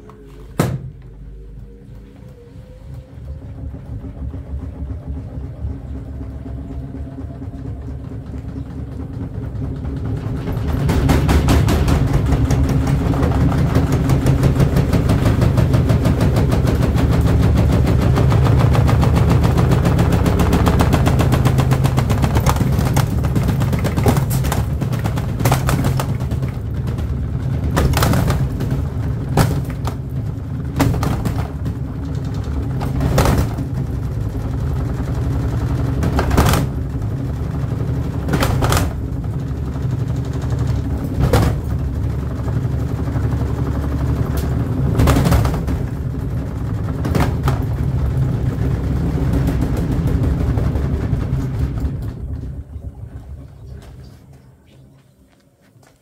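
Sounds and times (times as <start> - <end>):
washing machine drum banging: 0.0 - 1.2, 3.5 - 52.7
heavy low hum: 0.0 - 56.0.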